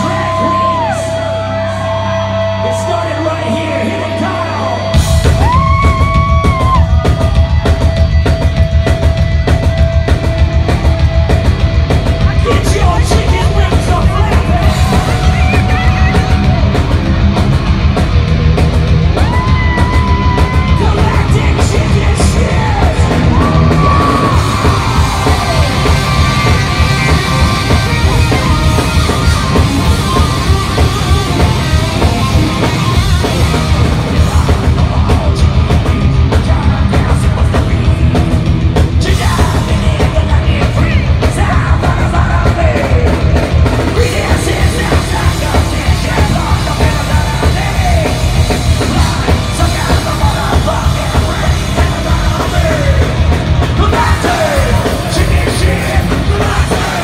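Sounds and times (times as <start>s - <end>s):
singer yelling vocals: 0.0s - 7.5s, 12.2s - 16.9s, 19.1s - 38.3s, 38.9s - 57.0s
punk band playing live: 0.0s - 57.0s.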